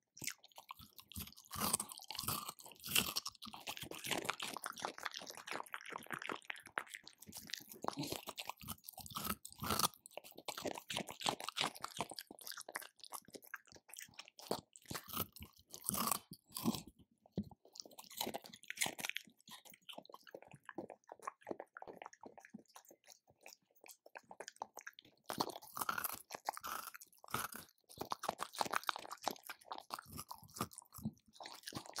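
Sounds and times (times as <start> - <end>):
dog crunching hard food: 0.2 - 16.9, 17.5 - 32.0.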